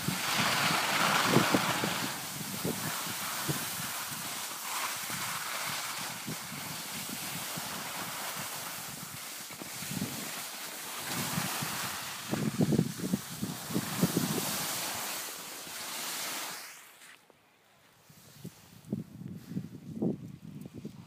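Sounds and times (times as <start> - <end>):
wind buffeting microphone: 0.0 - 10.4, 11.0 - 15.0, 18.4 - 21.0
skis hissing on snow: 0.0 - 17.3, 18.0 - 19.6.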